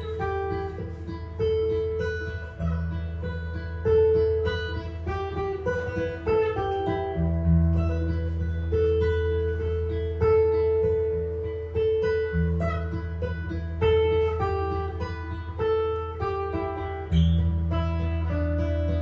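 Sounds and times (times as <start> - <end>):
jazz guitar plucked notes: 0.0 - 19.0
low bass notes: 0.7 - 16.2.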